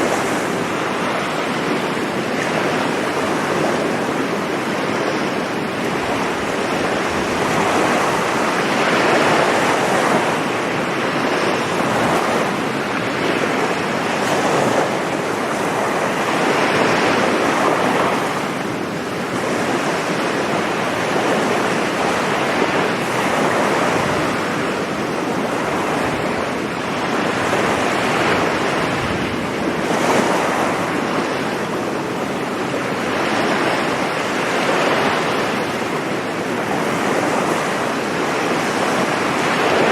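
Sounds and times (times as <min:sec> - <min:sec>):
surf breaking on a beach: 0:00.0 - 0:39.9.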